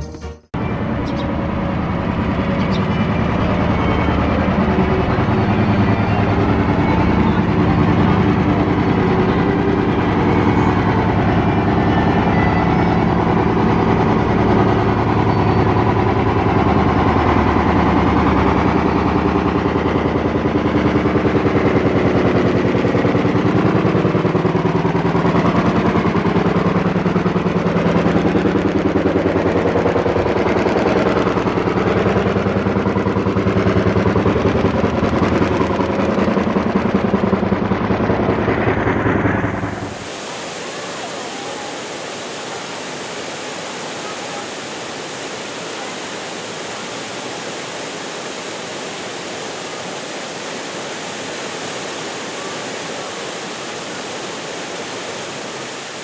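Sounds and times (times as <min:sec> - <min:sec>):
rapid rattling drone: 0:00.6 - 0:56.0.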